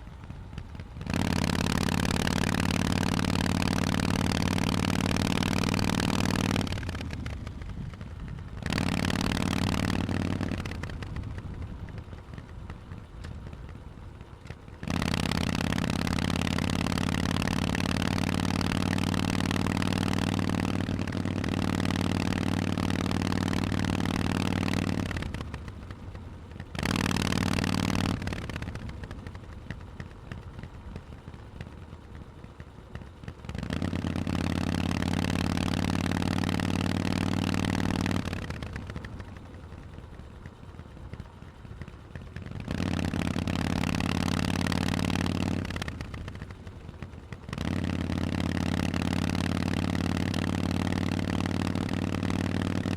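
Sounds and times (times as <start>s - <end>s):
motorcycle engine: 0.0s - 52.9s.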